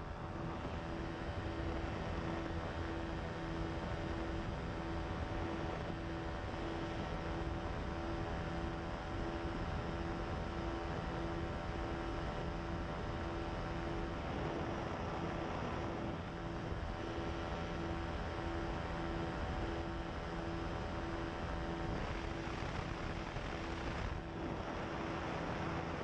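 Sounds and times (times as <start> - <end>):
aircraft engine and propeller droning: 0.0 - 26.0
wind noise: 0.1 - 26.0.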